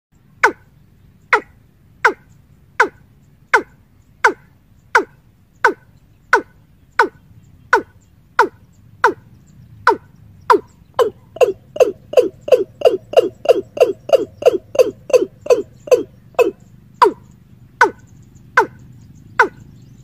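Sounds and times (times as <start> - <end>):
bird calling sharp notes: 0.3 - 0.7, 1.3 - 19.8.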